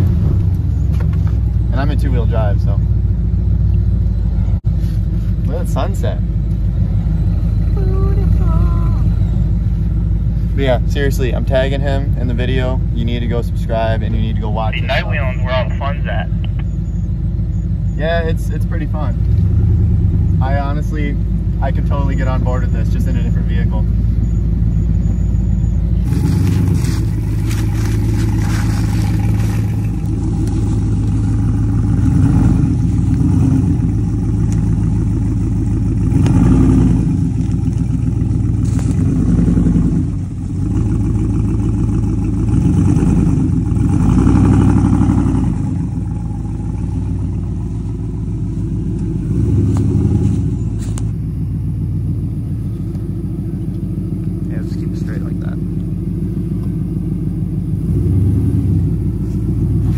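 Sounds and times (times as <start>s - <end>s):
pickup truck engine revving: 0.0s - 3.3s, 3.9s - 59.9s.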